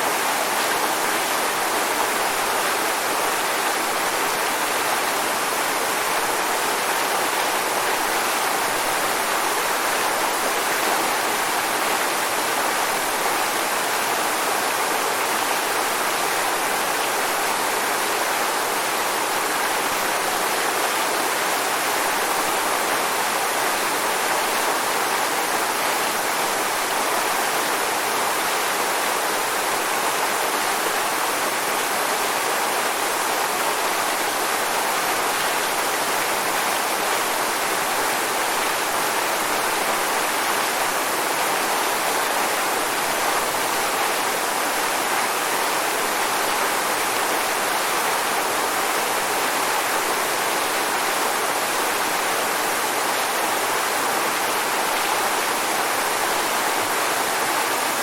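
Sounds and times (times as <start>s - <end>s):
waterfall pouring and splashing: 0.0s - 58.0s.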